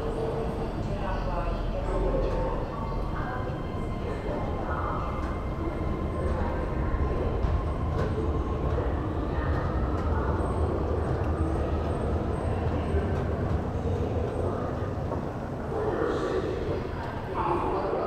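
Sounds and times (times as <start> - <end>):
metro station rumble and hiss: 0.0 - 18.0.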